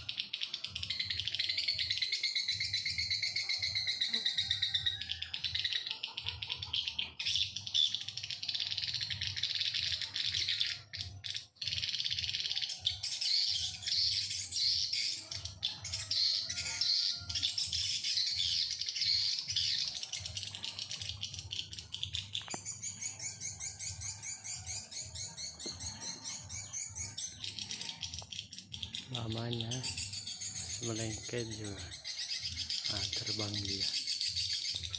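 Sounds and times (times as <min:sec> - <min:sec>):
fast repeated bird call: 0:00.0 - 0:34.9
small birds chirping: 0:00.0 - 0:34.9.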